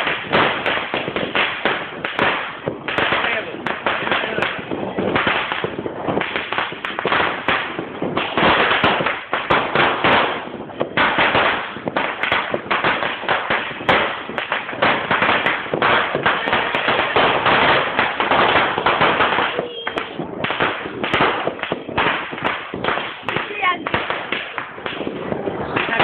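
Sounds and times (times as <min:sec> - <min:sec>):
firecrackers and fireworks crackling: 0:00.0 - 0:26.0.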